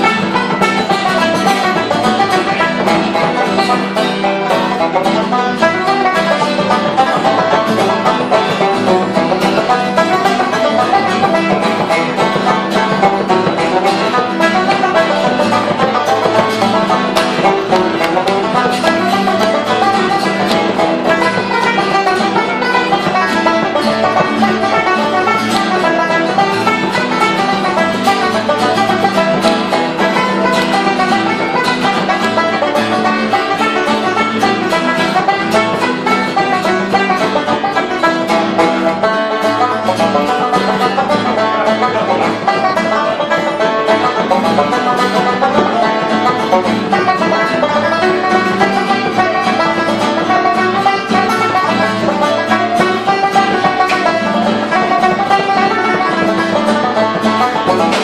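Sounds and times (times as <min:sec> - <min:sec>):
banjos and acoustic guitar: 0:00.0 - 0:58.0
button accordion: 0:00.0 - 0:58.0
frame drum: 0:00.0 - 0:58.0.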